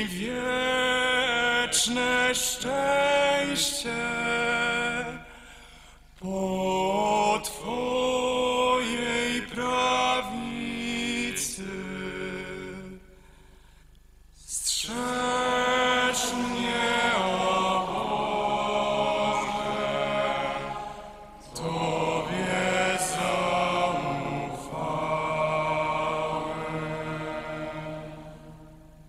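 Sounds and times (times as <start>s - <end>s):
slow liturgical chant: 0.0s - 29.0s.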